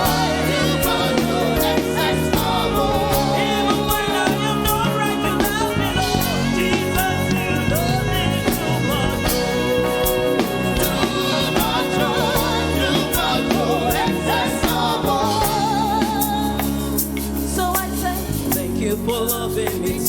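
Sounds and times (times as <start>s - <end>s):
gospel singing over a band: 0.0s - 20.0s.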